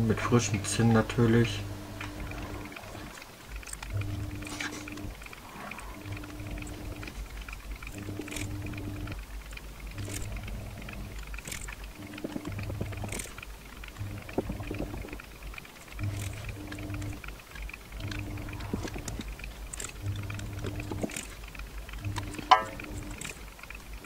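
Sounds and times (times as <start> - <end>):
low electrical hum: 0.0 - 24.0
small handling clicks: 2.0 - 24.0.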